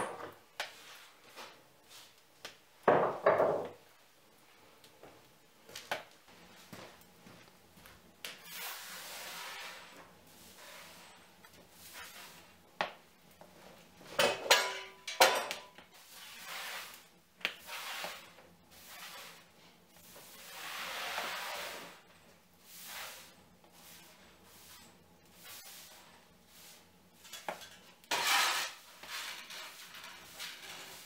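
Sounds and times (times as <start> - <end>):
broom sweeping wooden floor: 0.2 - 2.3, 6.3 - 15.0, 15.6 - 31.0.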